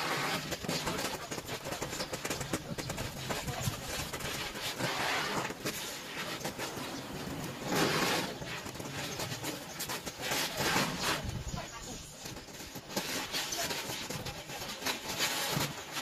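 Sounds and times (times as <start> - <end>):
small crackles: 0.0 - 16.0.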